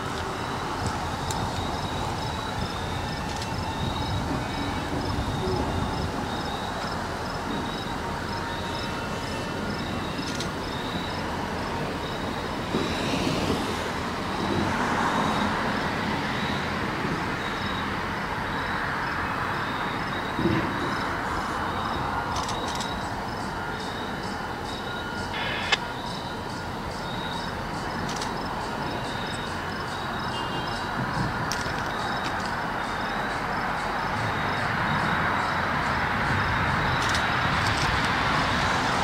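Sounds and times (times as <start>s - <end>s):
diesel locomotive engine rumble: 0.0s - 39.0s
train wheel noise: 0.0s - 39.0s.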